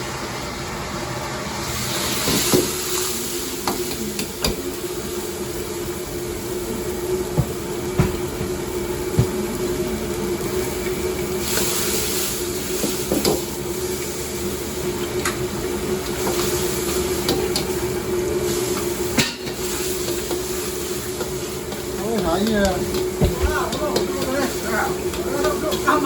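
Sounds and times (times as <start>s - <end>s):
food sizzling in a wok: 0.0s - 26.0s
kitchen burner hum: 0.0s - 26.0s.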